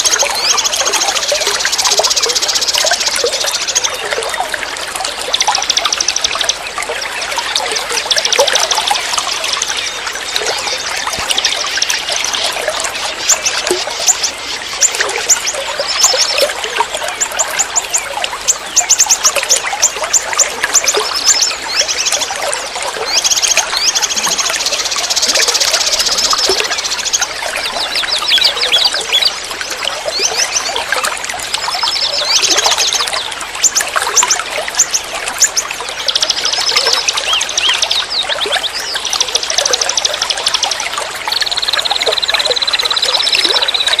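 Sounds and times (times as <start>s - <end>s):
songbirds chirping: 0.0s - 44.0s
stream trickling: 0.0s - 44.0s.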